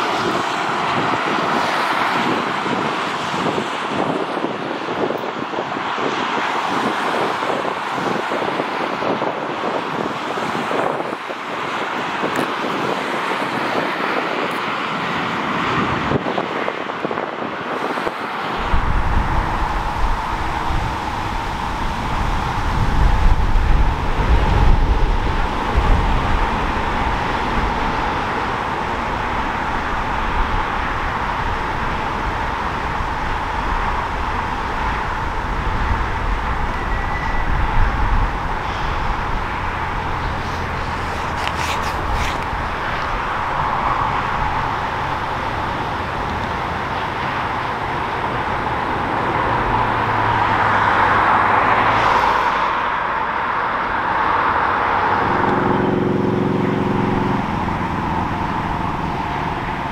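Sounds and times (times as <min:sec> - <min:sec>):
highway traffic passing: 0:00.0 - 0:59.9
wind rumbling on microphone: 0:00.0 - 0:59.9.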